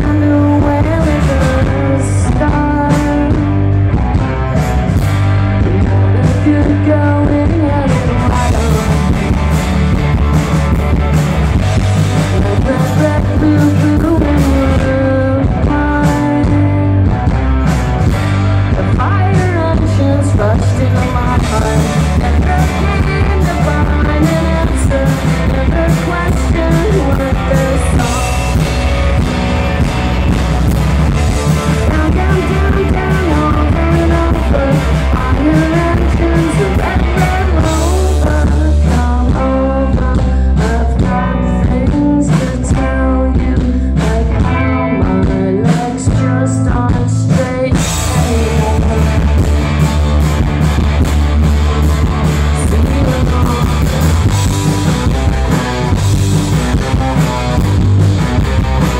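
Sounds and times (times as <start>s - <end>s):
person singing: 0.0s - 4.3s, 5.5s - 10.3s, 12.0s - 17.6s, 18.7s - 30.3s, 31.0s - 50.4s, 52.0s - 58.9s
indie pop band playing live: 0.0s - 58.9s.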